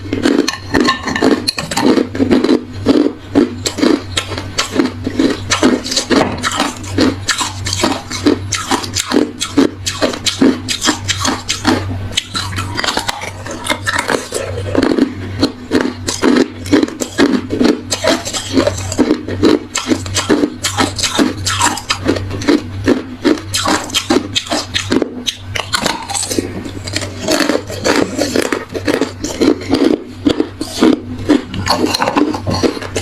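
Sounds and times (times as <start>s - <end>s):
ice being chewed: 0.0s - 33.0s.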